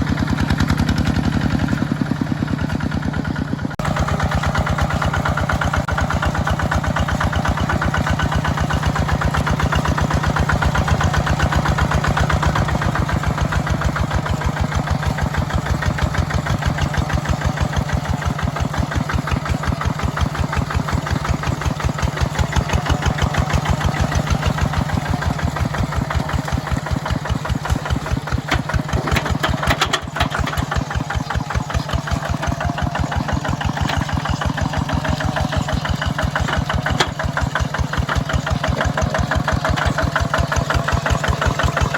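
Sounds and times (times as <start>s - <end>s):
tractor engine chugging: 0.0s - 41.9s.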